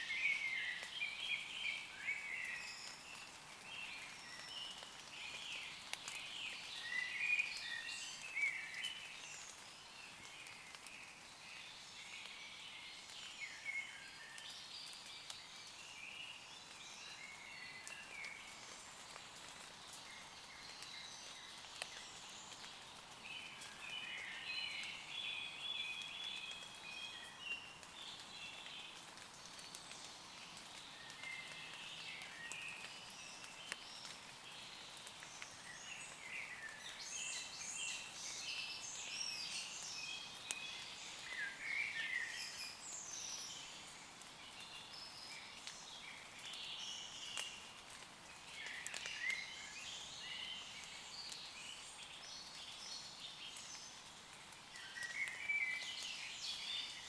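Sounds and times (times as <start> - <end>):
light rain on leaves: 0.0 - 57.0
woodland birds singing: 0.0 - 57.0
raindrop ticks: 0.8 - 1.4, 2.4 - 12.4, 13.0 - 13.4, 17.7 - 38.4, 39.8 - 56.7.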